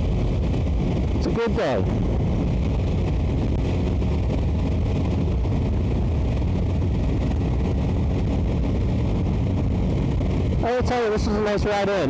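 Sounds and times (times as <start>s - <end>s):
motorcycle engine and wind rush: 0.0s - 12.0s.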